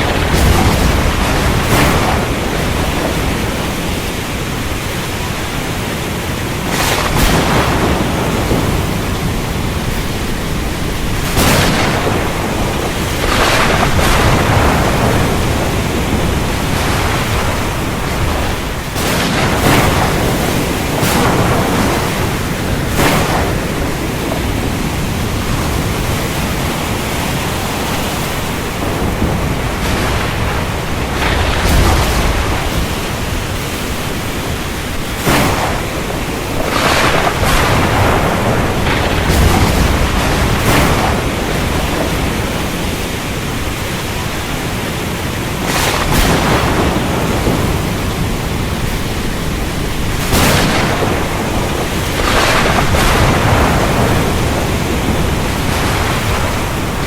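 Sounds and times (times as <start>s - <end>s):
heavy rain pouring: 0.0s - 57.0s
thunder cracks: 0.0s - 57.0s.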